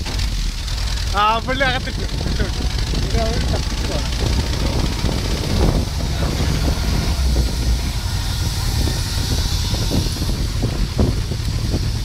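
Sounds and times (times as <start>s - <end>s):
road noise: 0.0s - 12.0s
vehicle engine running: 0.0s - 12.0s
wind rushing over microphone: 1.1s - 12.0s.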